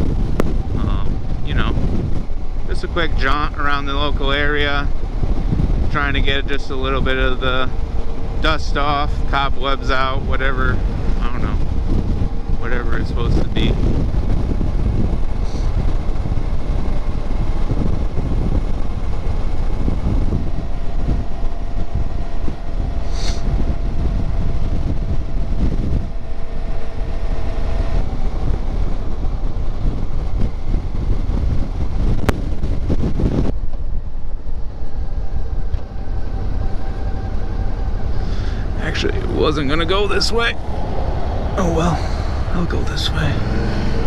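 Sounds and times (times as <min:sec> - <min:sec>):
motorcycle engine droning: 0:00.0 - 0:44.0
wind rumble on microphone: 0:00.0 - 0:44.0.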